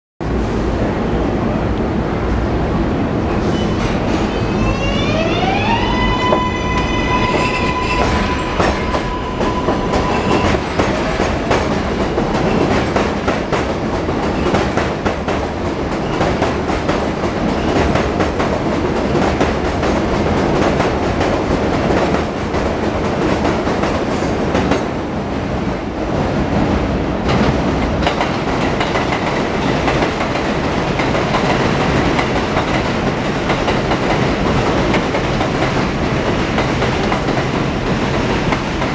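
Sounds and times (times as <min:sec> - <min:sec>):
train wheels clattering on rail: 0:06.2 - 0:25.0, 0:26.1 - 0:38.9.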